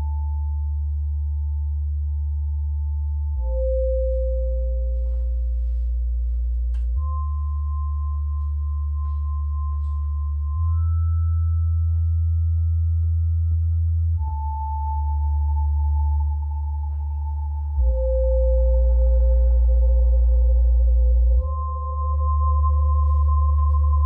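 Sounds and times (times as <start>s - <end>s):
low bass drone: 0.0s - 24.0s
synthesizer sustained tones: 0.0s - 24.0s.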